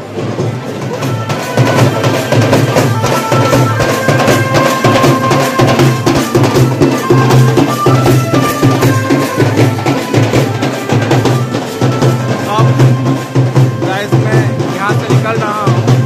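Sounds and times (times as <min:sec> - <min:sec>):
snare and bass drums: 0:00.0 - 0:16.0.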